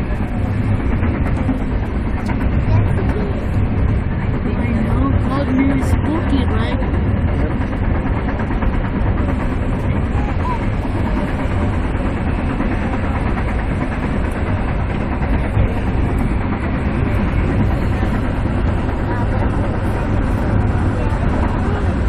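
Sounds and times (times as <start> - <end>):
train running on rails: 0.0 - 22.0.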